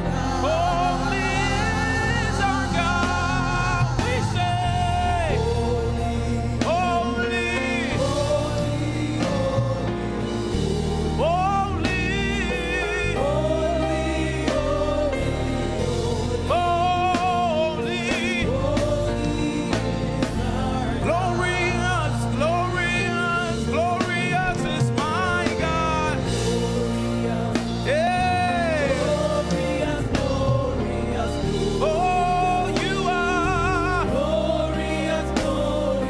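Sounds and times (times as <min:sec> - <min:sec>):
band playing bass and chords: 0:00.0 - 0:36.0
gospel choir singing: 0:00.0 - 0:36.0.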